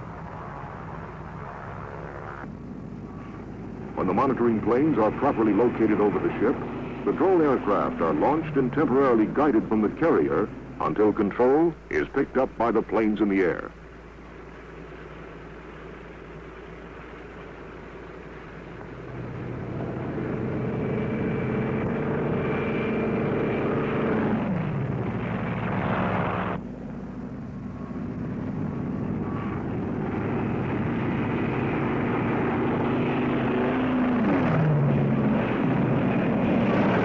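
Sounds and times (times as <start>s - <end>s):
propeller aircraft passing: 0.0s - 37.0s.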